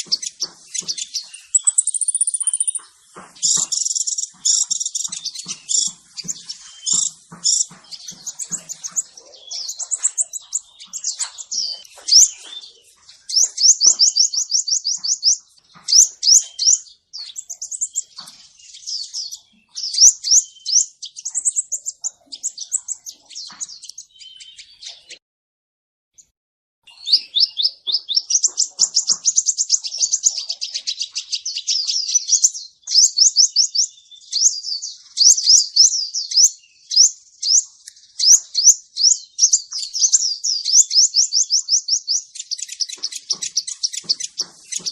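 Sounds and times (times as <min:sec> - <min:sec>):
bird chirps and trills: 0:00.0 - 0:25.2, 0:26.2 - 0:44.9.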